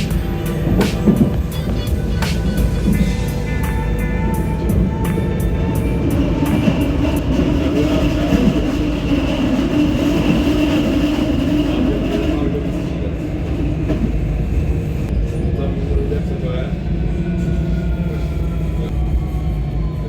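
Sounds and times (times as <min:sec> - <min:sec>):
tram rumbling on rails: 0:00.0 - 0:20.0
tram whining tone: 0:00.0 - 0:20.0.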